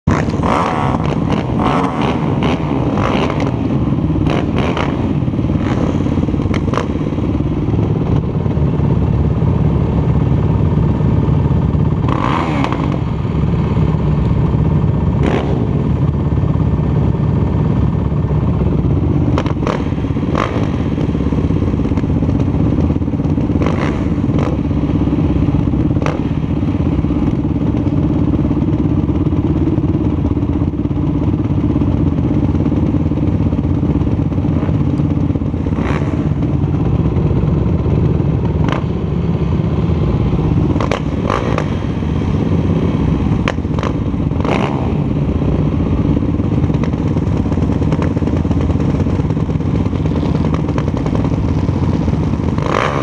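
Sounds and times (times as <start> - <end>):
quad engines idling: 0.1 - 53.0.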